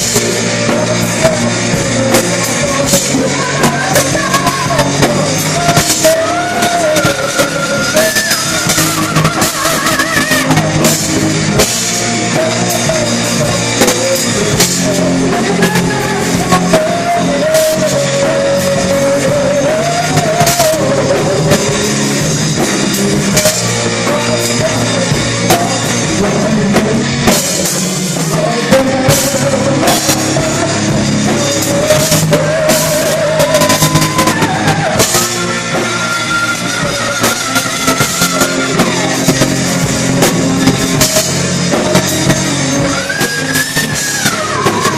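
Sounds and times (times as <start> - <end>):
rock music: 0.0 - 44.9.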